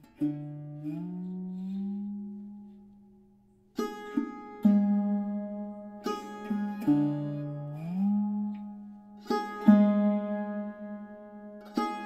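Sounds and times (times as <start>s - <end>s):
sarod plucked notes: 0.0s - 12.0s.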